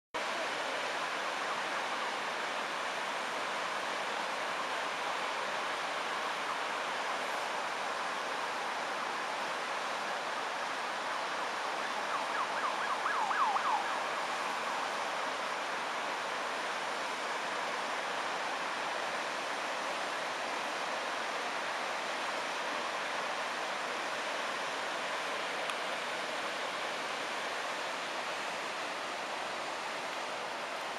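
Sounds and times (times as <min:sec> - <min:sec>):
river rushing: 0:00.2 - 0:30.9.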